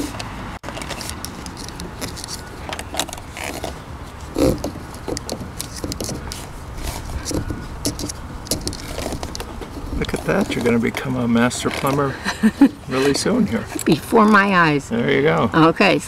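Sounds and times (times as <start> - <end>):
plastic pipe rustling and scraping: 0.0 - 14.5.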